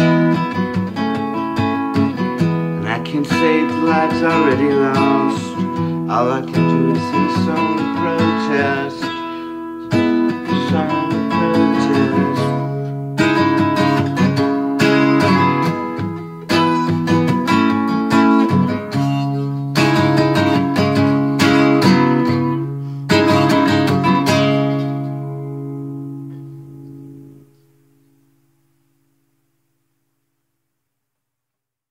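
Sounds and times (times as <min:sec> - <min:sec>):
acoustic guitar strumming: 0:00.0 - 0:29.8.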